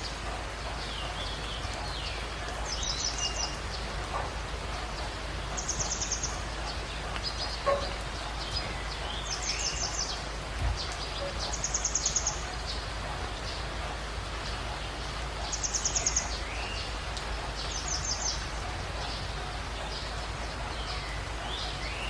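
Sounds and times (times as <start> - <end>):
bird calls: 0.0 - 22.0
steady background hiss: 0.0 - 22.0.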